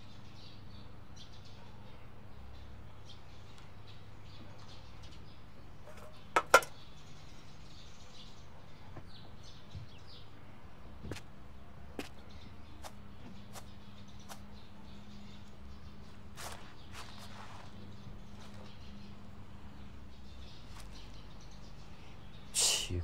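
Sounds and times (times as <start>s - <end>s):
birds chirping faintly: 0.0s - 23.0s.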